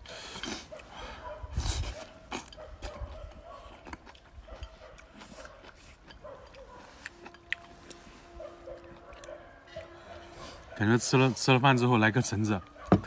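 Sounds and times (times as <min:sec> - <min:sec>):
wet chewing and lip smacks: 0:00.2 - 0:10.8.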